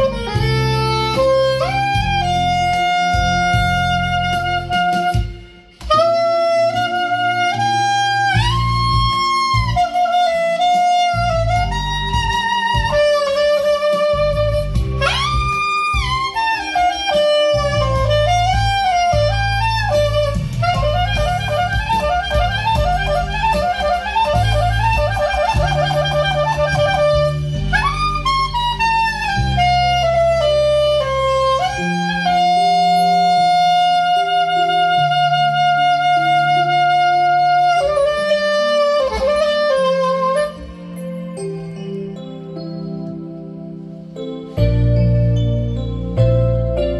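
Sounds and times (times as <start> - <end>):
accompaniment with bass line: 0.0 - 46.9
soprano saxophone melody: 0.0 - 46.9.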